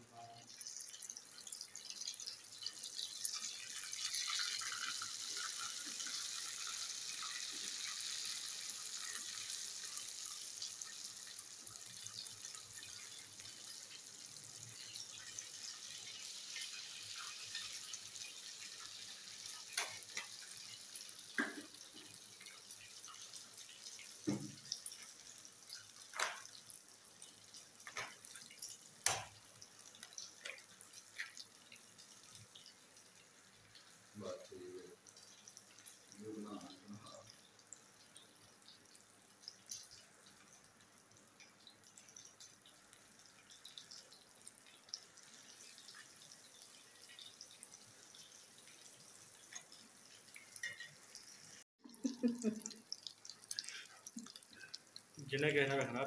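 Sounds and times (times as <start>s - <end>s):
food sizzling in hot oil: 0.1s - 56.0s.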